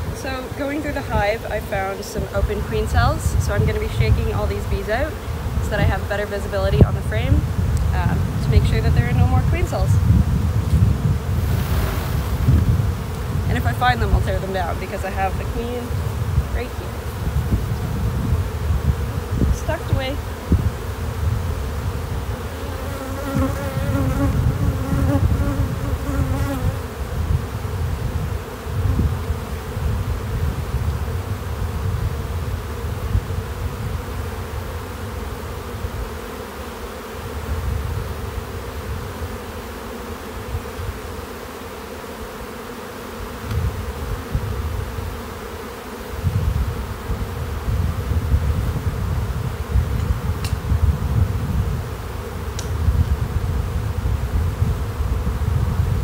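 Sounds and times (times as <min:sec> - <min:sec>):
honeybees humming: 0:00.0 - 0:56.0.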